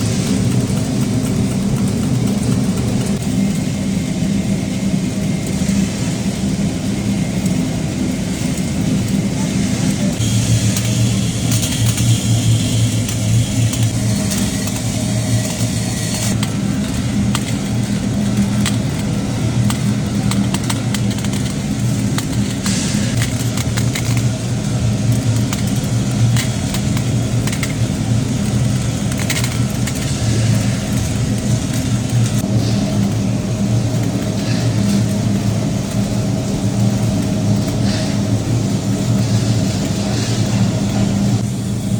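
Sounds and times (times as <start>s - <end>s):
factory machinery humming: 0.0s - 41.9s.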